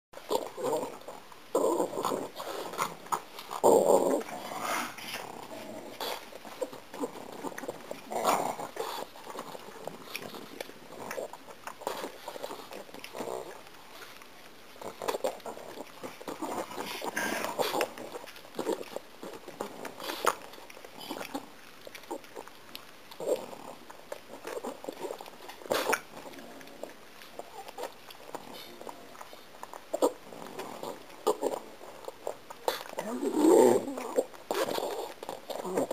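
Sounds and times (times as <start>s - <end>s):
dog chewing gum: 0.2s - 35.9s
mouth smacks and clicks: 6.0s - 35.9s.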